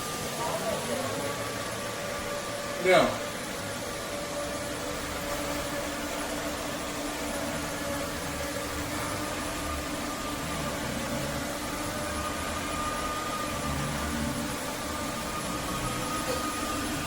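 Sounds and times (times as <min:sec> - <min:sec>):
vacuum mop air rush: 0:00.0 - 0:17.0.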